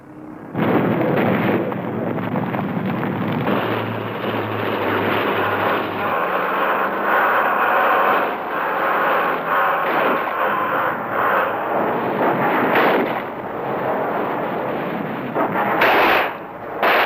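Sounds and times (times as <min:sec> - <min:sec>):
low hum: 0:00.0 - 0:16.9
vehicle engine noise: 0:00.0 - 0:17.0.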